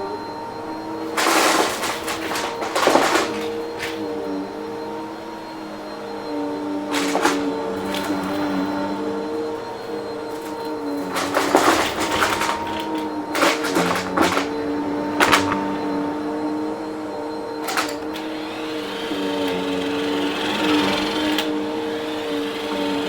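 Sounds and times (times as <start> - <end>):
debris rattling into vacuum: 0.0 - 23.0
vacuum cleaner motor hum: 0.0 - 23.0.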